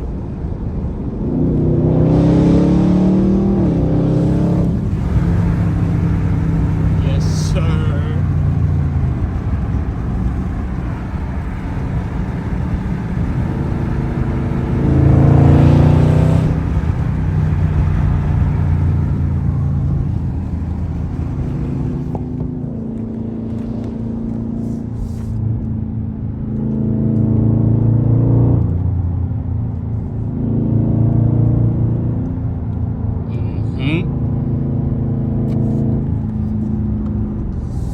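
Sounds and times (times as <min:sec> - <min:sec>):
loud car exhaust: 0:00.0 - 0:37.9.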